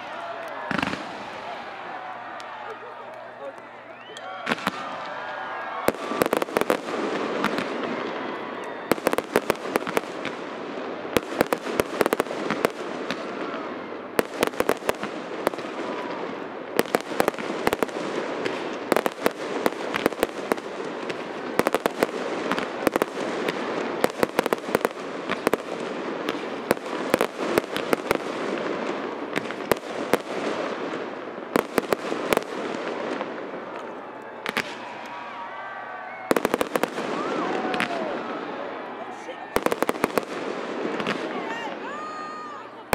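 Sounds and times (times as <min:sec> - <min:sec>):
fireworks bangs and pops: 0:00.0 - 0:35.5, 0:36.2 - 0:38.5, 0:39.4 - 0:42.1.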